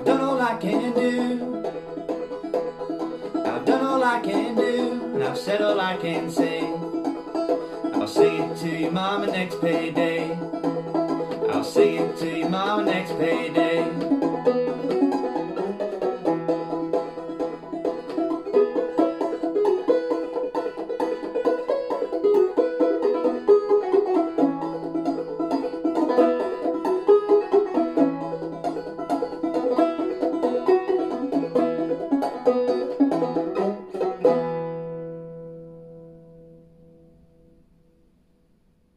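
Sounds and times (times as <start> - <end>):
banjo playing: 0.0 - 38.4.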